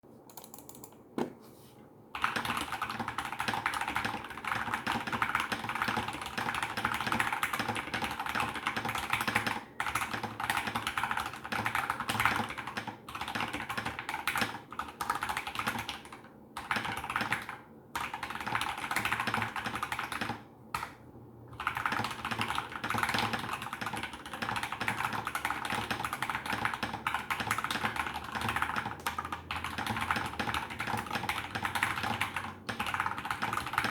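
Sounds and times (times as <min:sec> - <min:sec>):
fast typing on mechanical keyboard: 0:00.3 - 0:01.0, 0:02.2 - 0:33.9.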